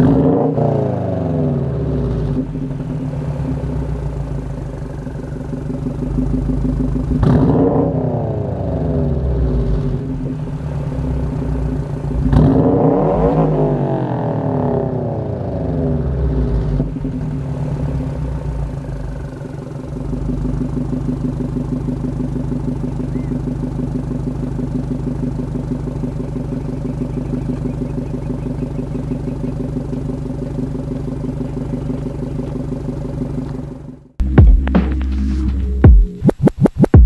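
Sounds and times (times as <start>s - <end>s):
car engine idling: 0.0s - 36.1s.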